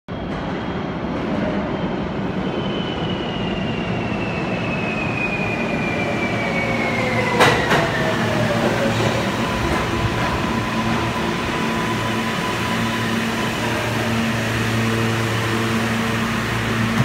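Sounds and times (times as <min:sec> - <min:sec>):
subway train rumble: 0:00.1 - 0:17.0.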